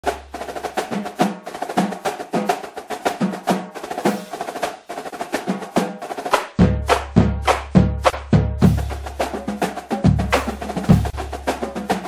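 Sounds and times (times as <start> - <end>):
drum hits: 0.0 - 12.0.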